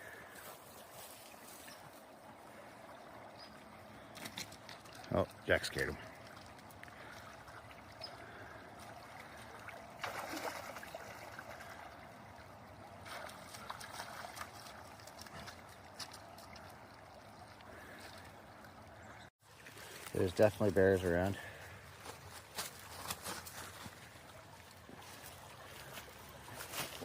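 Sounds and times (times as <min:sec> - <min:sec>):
stream water running: 0:00.0 - 0:27.0
water splashes: 0:00.0 - 0:27.0.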